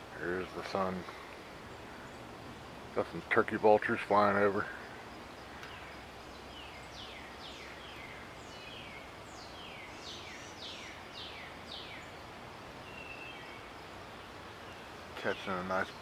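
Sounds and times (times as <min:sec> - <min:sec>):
outdoor background hiss: 0:00.0 - 0:16.0
small birds chirping: 0:00.0 - 0:16.0.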